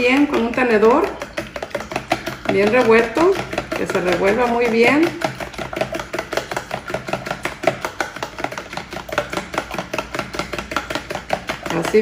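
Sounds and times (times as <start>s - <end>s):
fork beating eggs in plastic container: 0.0s - 12.0s.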